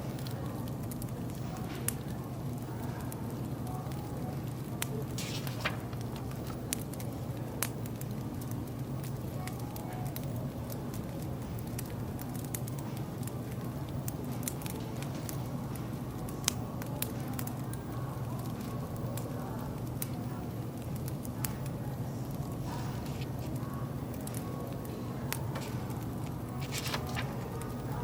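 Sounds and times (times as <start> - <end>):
steady low hum: 0.0 - 28.0
wood fire crackling: 0.0 - 28.0.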